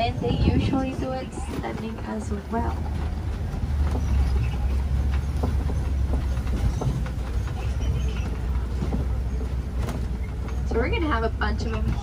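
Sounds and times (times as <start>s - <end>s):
knocks and rattles: 0.0s - 12.0s
truck rumbling: 0.0s - 12.0s.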